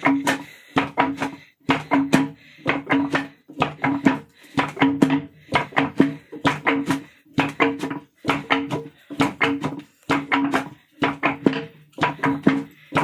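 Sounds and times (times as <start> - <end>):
hand drum strokes: 0.0 - 13.0.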